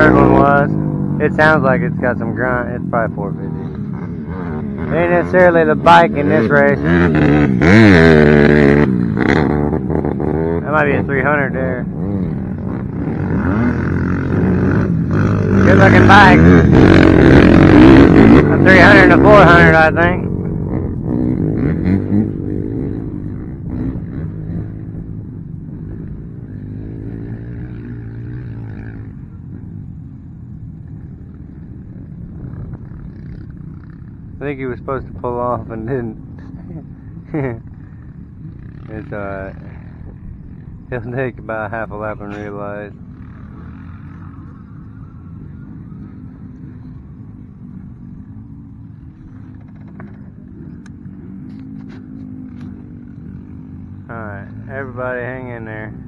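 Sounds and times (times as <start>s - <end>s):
quad engines revving: 0.0s - 30.2s, 30.8s - 56.0s.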